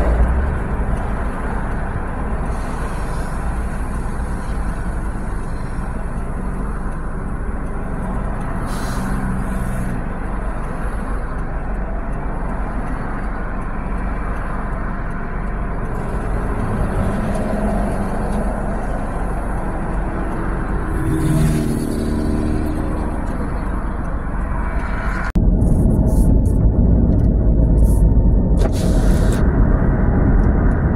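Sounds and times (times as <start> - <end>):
road noise rumble: 0.0 - 30.9
vehicles passing with hiss: 0.0 - 30.9.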